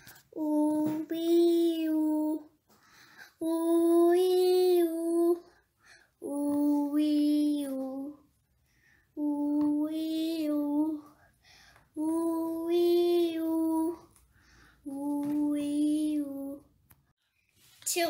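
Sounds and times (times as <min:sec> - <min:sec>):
girl singing vocal warm-up: 0:00.0 - 0:16.8.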